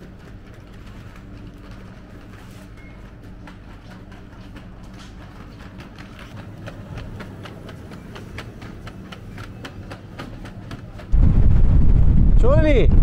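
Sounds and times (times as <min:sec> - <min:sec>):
trolley wheels clicking on tiles: 0:00.0 - 0:11.2
steady low hum: 0:00.0 - 0:13.0.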